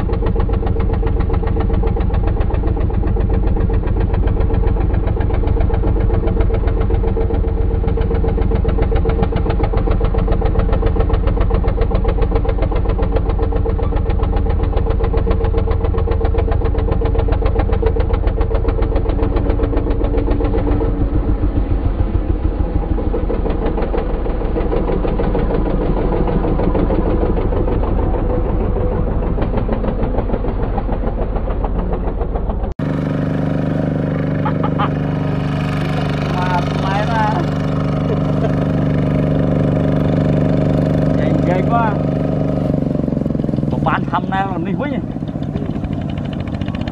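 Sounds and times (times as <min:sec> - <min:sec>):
diesel engine chugging: 0:00.0 - 0:46.9.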